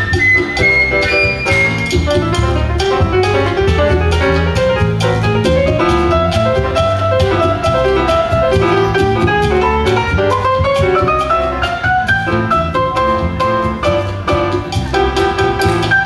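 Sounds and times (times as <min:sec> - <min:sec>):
latin dance music with percussion: 0:00.0 - 0:16.0.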